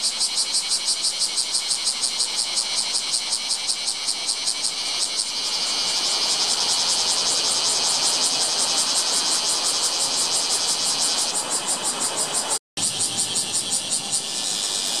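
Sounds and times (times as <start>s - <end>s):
cicada buzzing: 0.0s - 15.0s.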